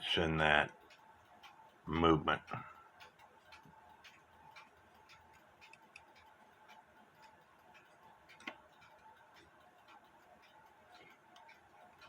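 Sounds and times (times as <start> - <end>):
clock click: 0.0 - 12.0
mechanical clock ticking: 0.0 - 12.0.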